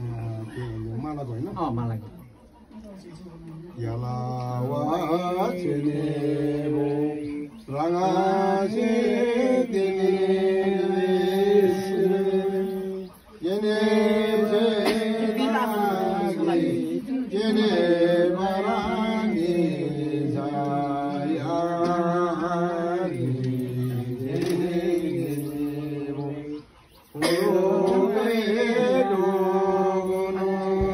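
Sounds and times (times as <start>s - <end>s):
person chanting: 3.8s - 30.9s.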